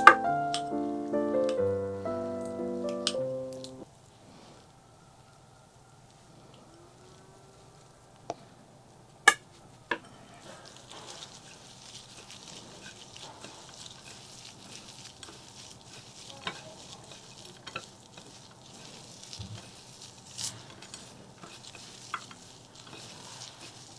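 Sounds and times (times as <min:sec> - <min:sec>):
fine crackling of crisp food: 0:00.0 - 0:03.8, 0:06.0 - 0:23.9.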